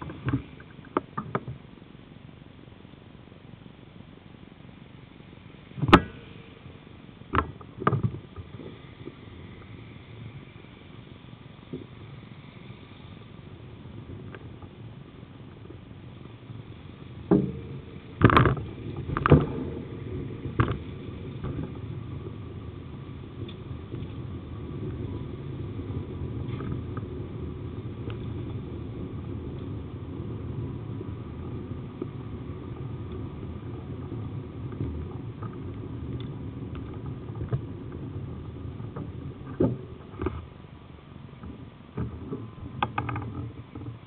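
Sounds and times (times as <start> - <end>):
ferry engine rumbling: 0.0 - 44.0.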